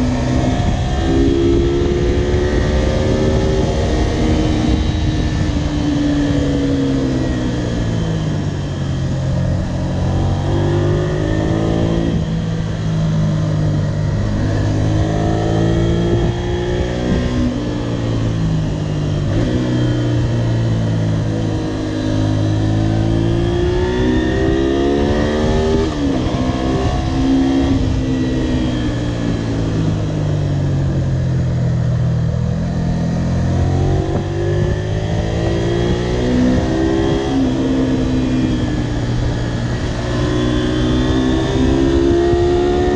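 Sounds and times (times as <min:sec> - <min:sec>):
motorcycle engine accelerating: 0:00.0 - 0:42.9
wind and road noise: 0:00.0 - 0:42.9.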